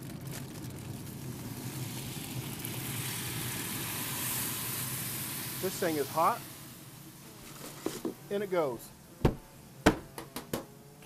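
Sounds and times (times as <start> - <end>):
smoker humming and hissing: 0.0 - 11.0.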